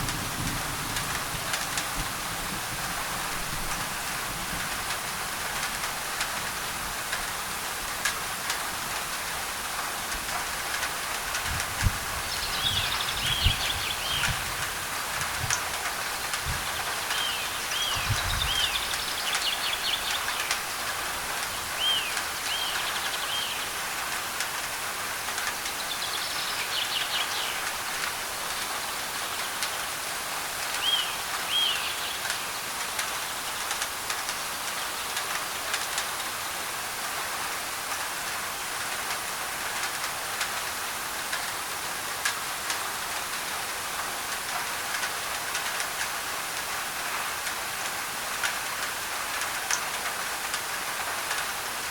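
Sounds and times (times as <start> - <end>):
rain on a tin roof: 0.0 - 51.9.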